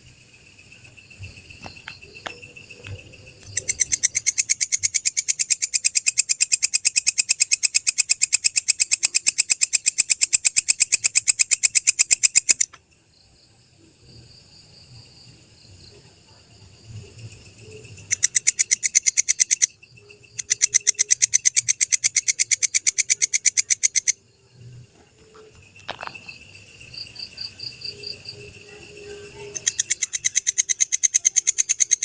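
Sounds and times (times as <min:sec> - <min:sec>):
katydid chirping: 0:00.0 - 0:13.5, 0:16.6 - 0:32.0.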